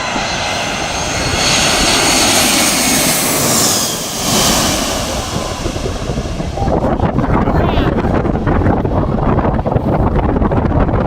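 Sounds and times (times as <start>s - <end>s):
jet engines whining: 0.0s - 9.8s.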